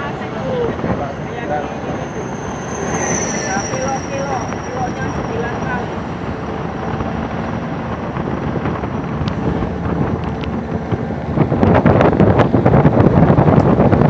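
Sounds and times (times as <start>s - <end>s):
vehicle road and engine noise: 0.0s - 14.0s
wind buffeting microphone: 0.0s - 14.0s.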